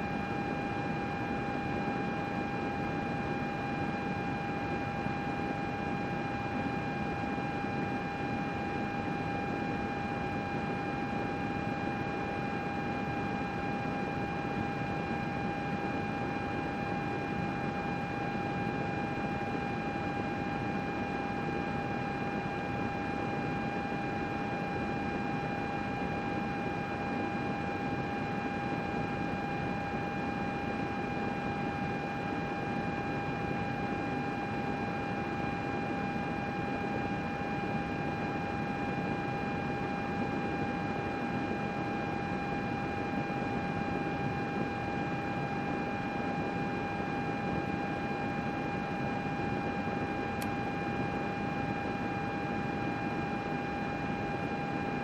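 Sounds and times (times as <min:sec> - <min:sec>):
computer fans whirring: 0:00.0 - 0:55.0.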